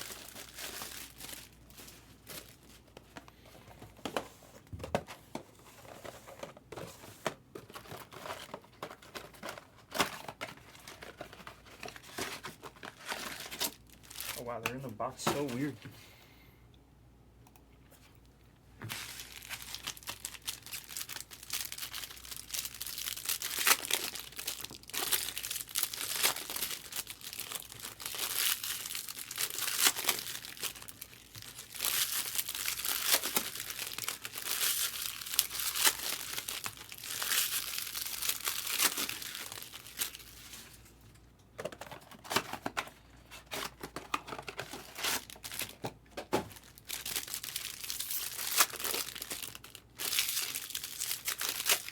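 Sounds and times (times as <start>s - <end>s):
card pack wrappers crinkling: 0.0s - 4.2s, 7.5s - 15.8s, 18.8s - 41.0s, 41.6s - 51.9s.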